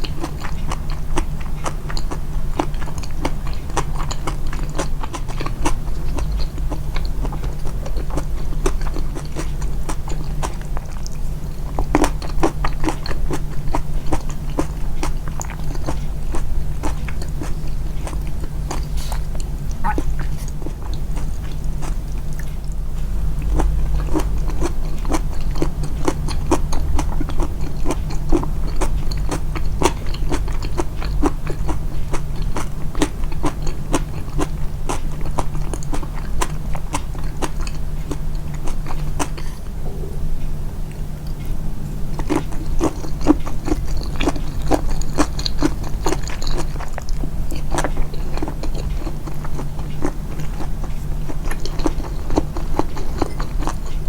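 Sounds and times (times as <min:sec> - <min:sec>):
chewing and biting food: 0:00.0 - 0:40.0, 0:40.8 - 0:54.0
steady low hum: 0:00.0 - 0:54.0.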